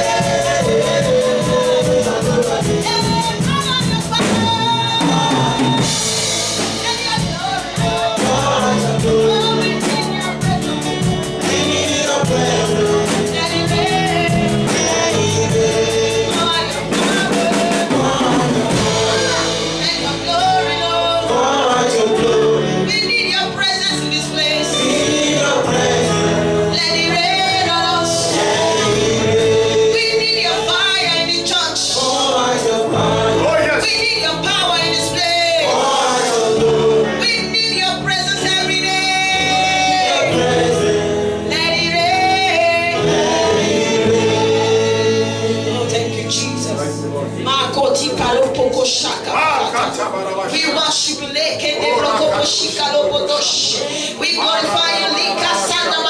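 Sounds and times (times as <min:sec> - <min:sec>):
gospel choir singing with band: 0:00.0 - 0:56.0.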